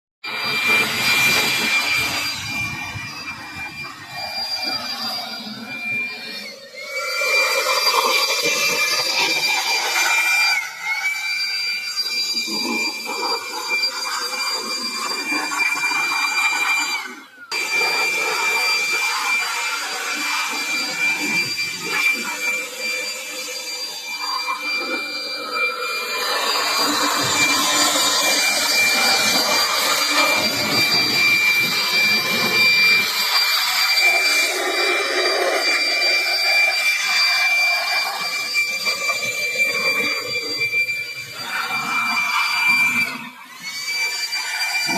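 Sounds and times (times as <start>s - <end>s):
small electric motor whining: 0.2s - 44.9s.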